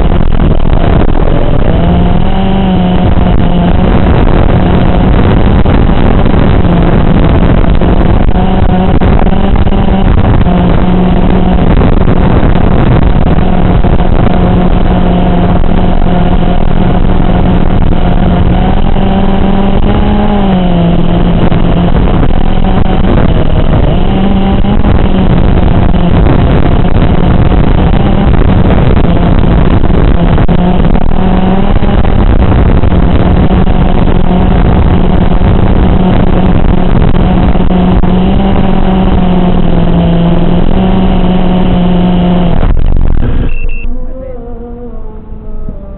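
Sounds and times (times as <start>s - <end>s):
drone propellers droning: 0.0s - 45.9s.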